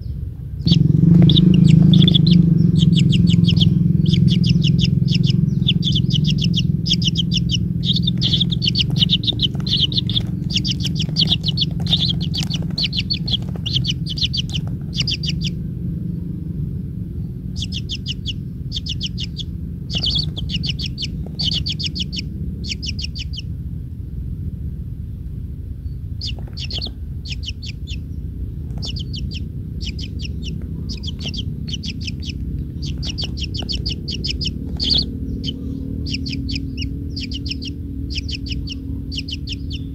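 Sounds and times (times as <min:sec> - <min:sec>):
steady low rumble: 0:00.0 - 0:39.9
bird chattering: 0:00.6 - 0:23.6, 0:25.8 - 0:39.9.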